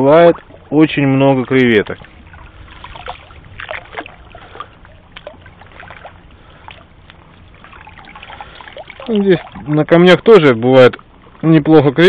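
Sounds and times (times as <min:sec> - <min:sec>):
water lapping against stones: 0:00.0 - 0:11.6
low steady rumble: 0:00.0 - 0:12.0
small water drips: 0:00.2 - 0:11.5.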